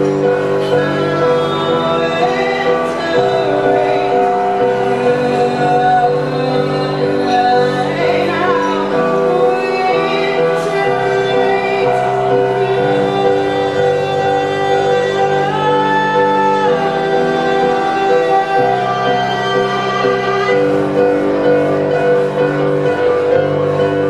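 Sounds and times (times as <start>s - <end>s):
keyboard chords: 0.0s - 24.0s
woman singing: 0.0s - 24.0s.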